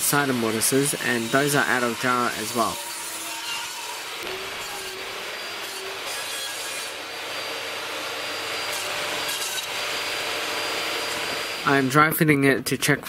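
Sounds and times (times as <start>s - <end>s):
table saw cutting wood: 0.0s - 12.2s.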